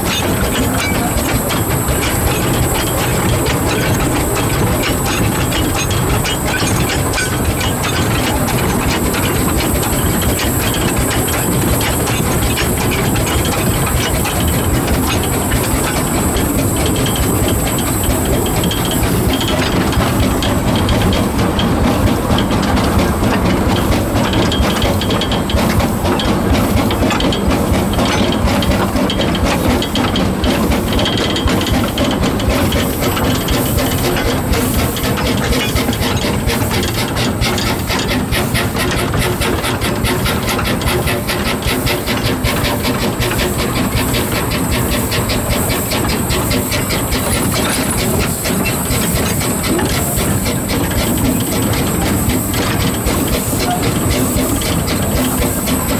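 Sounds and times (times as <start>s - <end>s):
steam hiss: 0.0s - 55.9s
wheels clattering: 0.0s - 55.9s.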